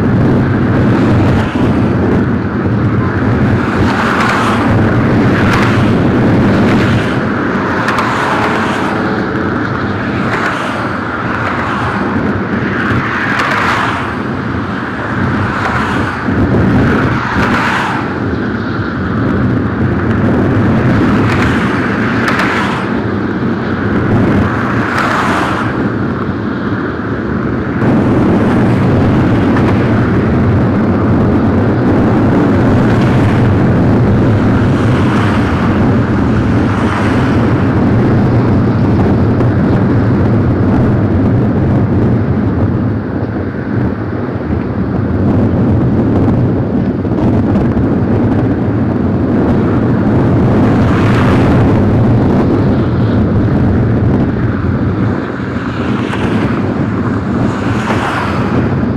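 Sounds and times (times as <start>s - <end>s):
loud outdoor rumble: 0.0s - 58.9s.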